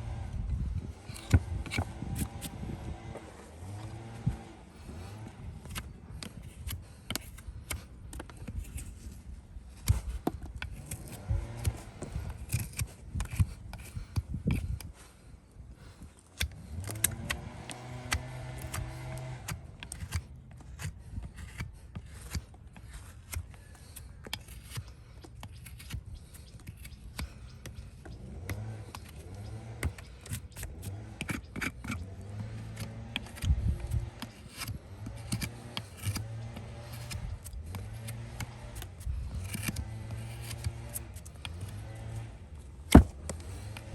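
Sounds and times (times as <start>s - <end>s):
hoof tools snipping and scraping: 0.0s - 43.9s.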